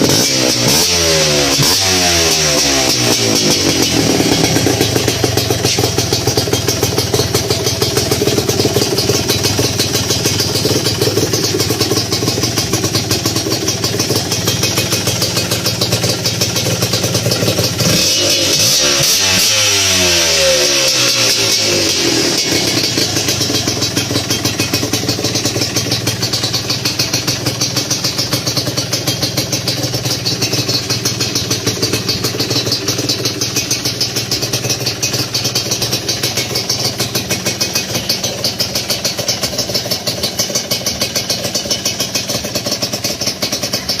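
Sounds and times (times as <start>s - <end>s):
two-stroke motorcycle engine idling: 0.0s - 44.0s.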